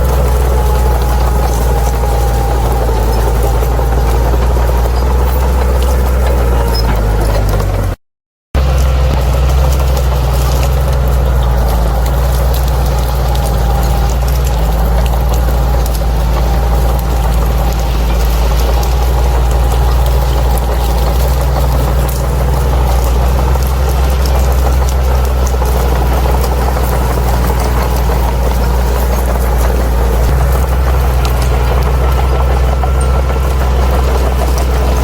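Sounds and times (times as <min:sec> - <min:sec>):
bulldozer diesel engine running: 0:00.0 - 0:08.0, 0:08.6 - 0:35.0.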